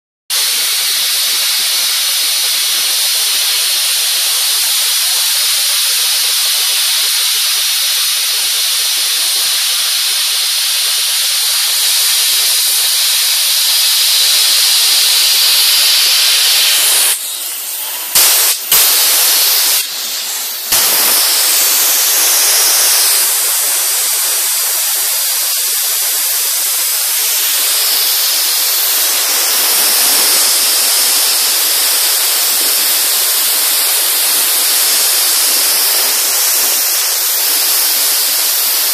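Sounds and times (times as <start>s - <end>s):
sandblasting hiss: 0.3s - 38.9s.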